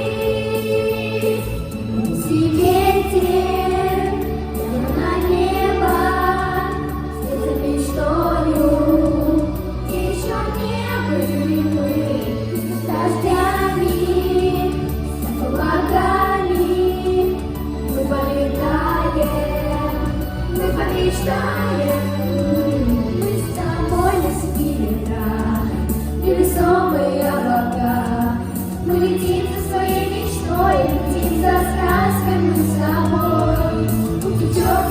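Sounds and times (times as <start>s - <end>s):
instrumental backing with bass: 0.0s - 34.9s
voices singing: 0.0s - 34.9s.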